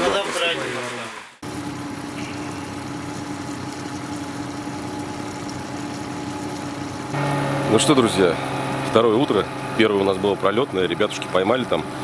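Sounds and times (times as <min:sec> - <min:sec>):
outboard motor running: 0:01.4 - 0:12.0.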